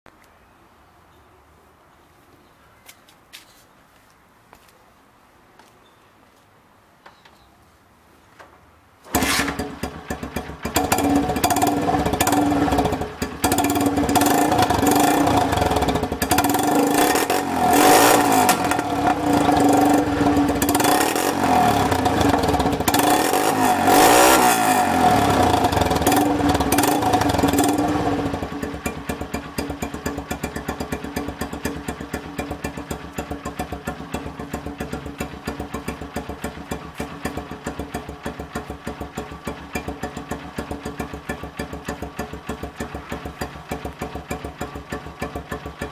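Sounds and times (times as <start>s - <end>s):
motorcycle engine revving and idling: 9.1s - 45.9s.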